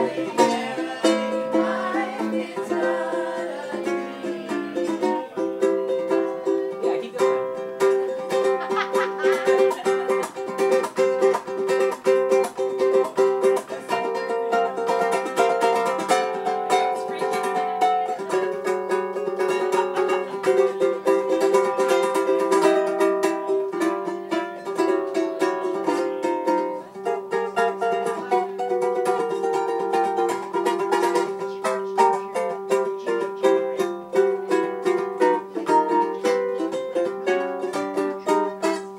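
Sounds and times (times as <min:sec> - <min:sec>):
ukulele playing: 0:00.0 - 0:38.9.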